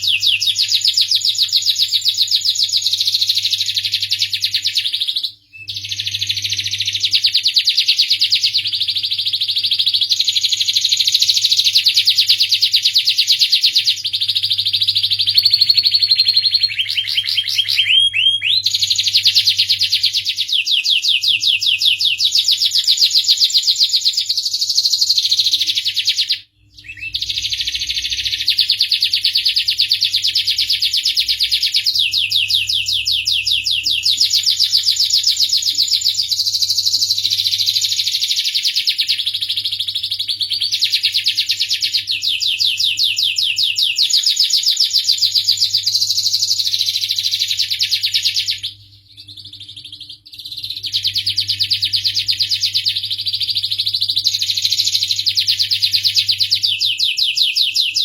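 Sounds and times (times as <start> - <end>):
canary trilling: 0.0 - 58.0.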